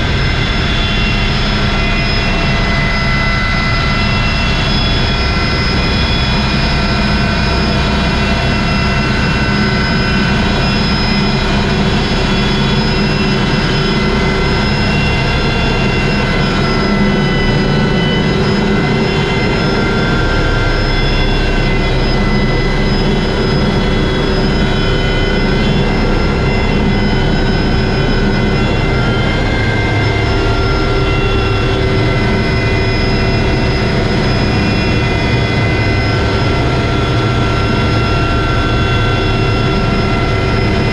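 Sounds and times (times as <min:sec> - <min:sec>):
helicopter drone with whining tones: 0:00.0 - 0:40.9.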